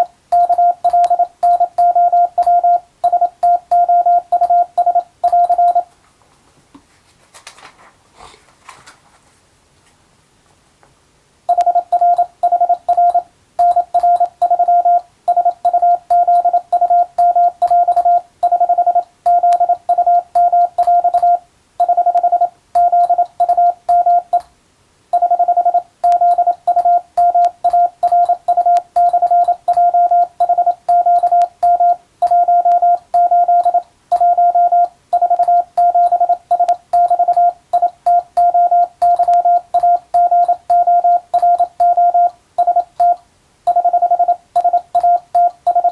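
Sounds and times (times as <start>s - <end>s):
morse code tone: 0.0s - 5.9s, 11.5s - 24.5s, 25.2s - 45.9s.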